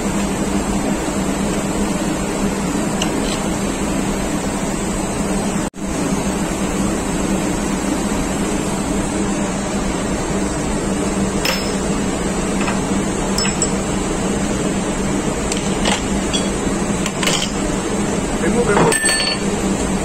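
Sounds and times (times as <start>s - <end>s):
machinery drone with low hum: 0.0s - 20.0s.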